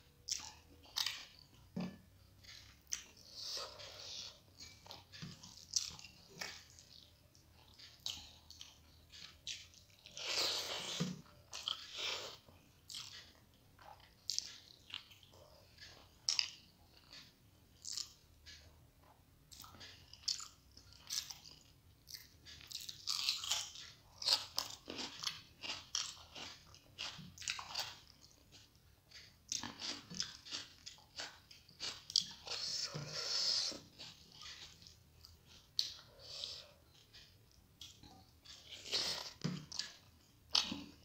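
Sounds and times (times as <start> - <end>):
wet chewing and lip smacking: 0.3 - 41.0.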